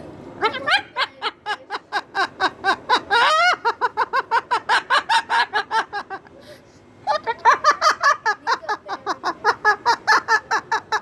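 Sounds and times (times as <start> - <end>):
cockatoo imitating laughter: 0.4 - 6.3, 7.1 - 11.0.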